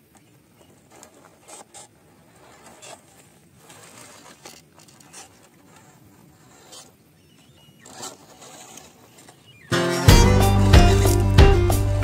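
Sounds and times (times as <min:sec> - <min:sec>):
faint drivetrain whirr: 0:00.0 - 0:12.0
toy truck tyres crunching over gravel: 0:00.0 - 0:12.0.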